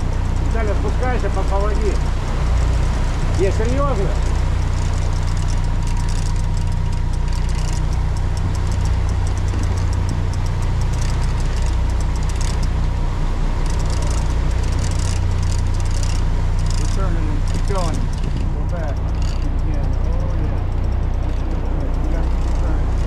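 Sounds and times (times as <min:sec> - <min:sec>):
boat engines droning: 0:00.0 - 0:23.0
high hiss and clicking: 0:00.0 - 0:23.0.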